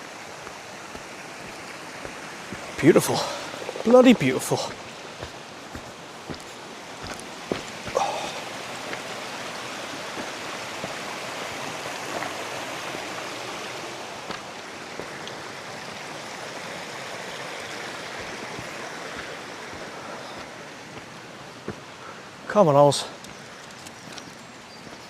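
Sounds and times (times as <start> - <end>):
stream flowing: 0.0 - 25.0.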